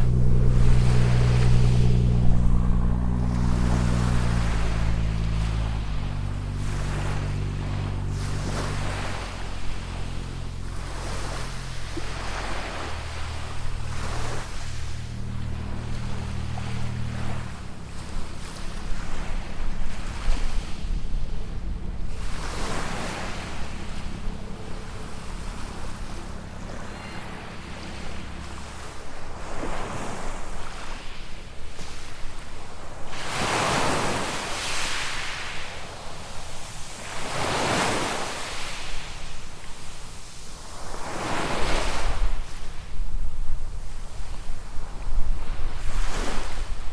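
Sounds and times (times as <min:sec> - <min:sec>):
small waves breaking on sand: 0:00.0 - 0:46.9
wind rumble on microphone: 0:00.0 - 0:46.9.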